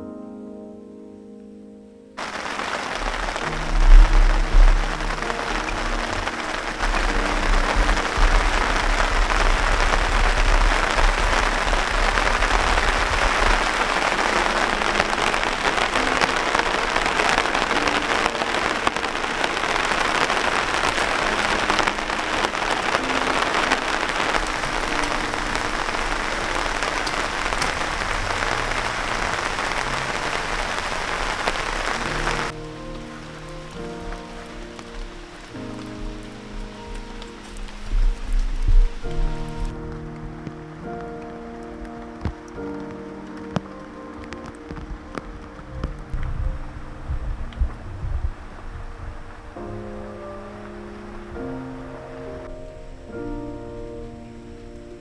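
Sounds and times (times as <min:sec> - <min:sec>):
heavy rain on tent fabric: 0:02.2 - 0:55.0.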